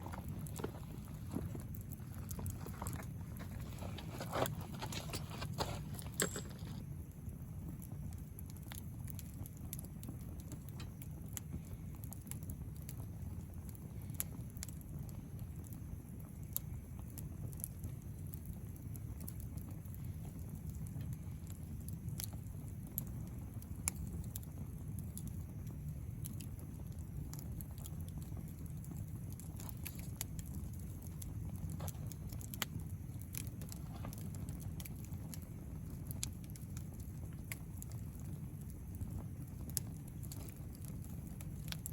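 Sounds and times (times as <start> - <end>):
campfire crackling and popping: 0.0 - 41.9
low fire rumble: 0.0 - 41.9.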